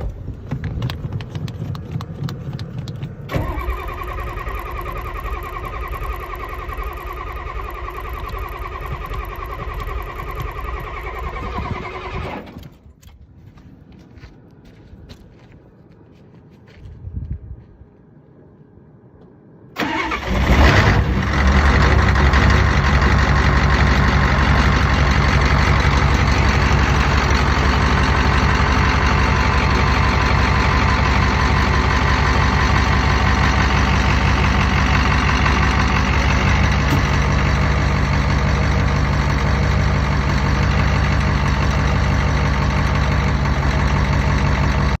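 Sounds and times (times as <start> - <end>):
engine cranking and idling: 0.0 - 13.2, 19.8 - 45.0.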